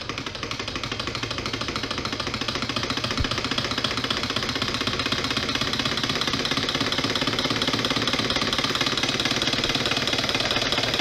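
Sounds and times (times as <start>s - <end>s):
solenoid engine firing rapidly: 0.0s - 11.0s.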